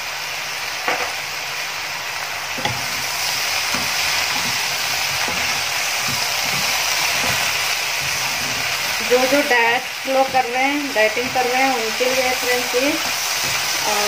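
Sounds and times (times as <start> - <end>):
vegetables sizzling in pan: 0.0 - 14.0
stirring scrapes in pan: 2.6 - 14.0.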